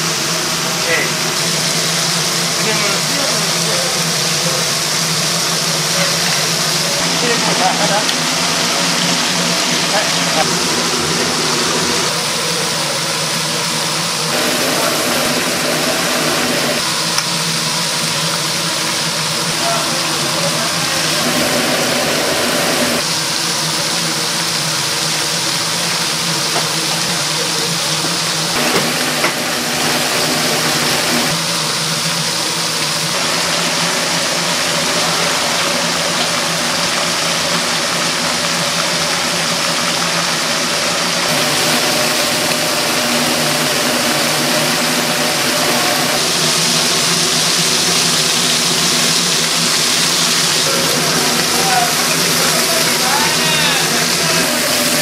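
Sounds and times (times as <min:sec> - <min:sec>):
grilling equipment hissing and humming: 0:00.0 - 0:55.0.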